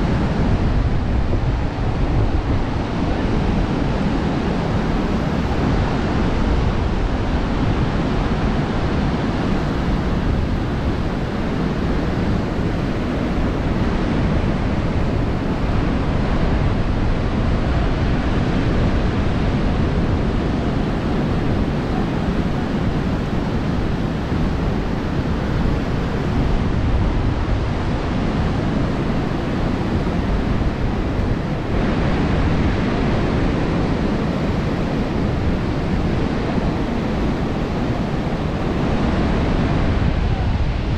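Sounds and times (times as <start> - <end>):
sea surf rushing: 0.0 - 40.9
wind buffeting microphone: 0.0 - 40.9.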